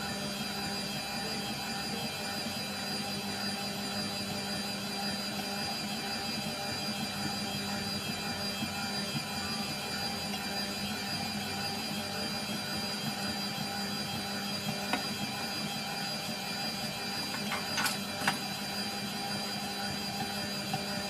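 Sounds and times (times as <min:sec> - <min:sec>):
stand mixer motor whine: 0:00.0 - 0:21.0.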